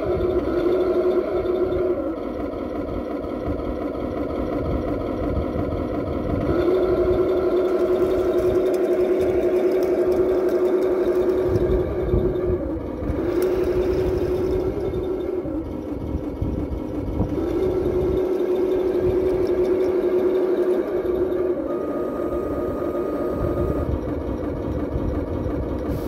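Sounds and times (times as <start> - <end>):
simulated tank engine hum: 0.0 - 26.0.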